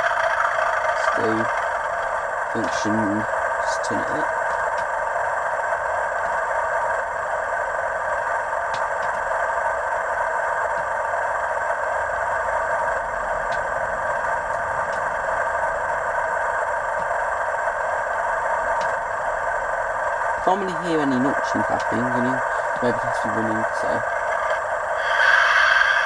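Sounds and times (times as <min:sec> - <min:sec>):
model locomotive diesel engine idling: 0:00.0 - 0:26.0.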